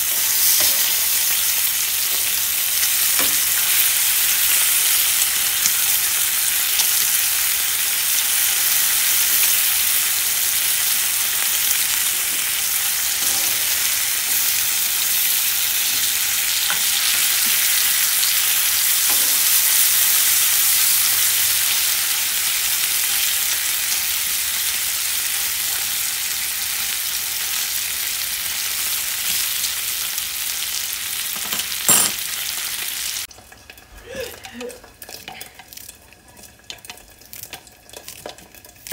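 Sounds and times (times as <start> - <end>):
bacon sizzling in a pan: 0.0 - 38.9.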